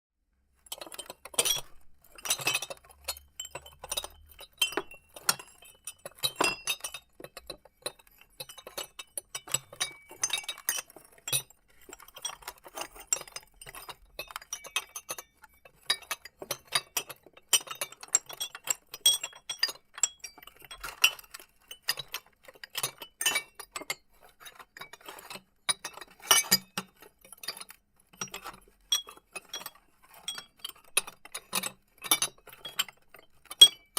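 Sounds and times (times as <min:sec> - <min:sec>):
glass items clinking: 0:00.6 - 0:33.9.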